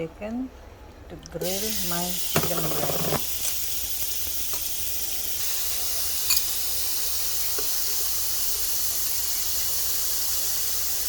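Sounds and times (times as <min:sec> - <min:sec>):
chicken sizzling in a pan: 0:01.4 - 0:11.0.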